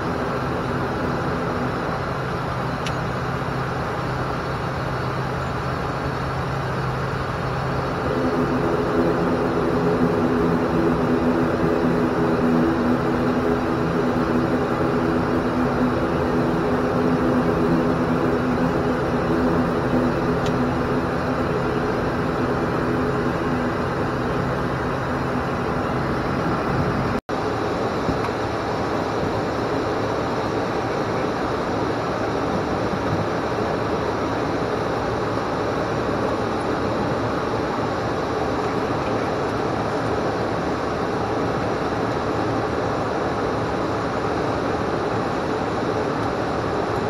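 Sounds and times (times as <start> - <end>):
propeller drone: 0.0 - 47.0.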